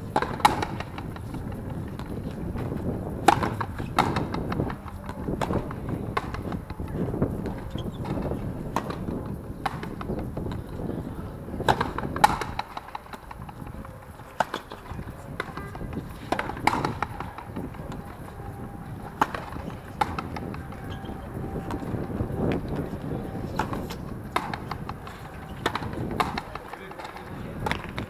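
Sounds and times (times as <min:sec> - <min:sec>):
ball striking rackets and wall: 0:00.0 - 0:28.0.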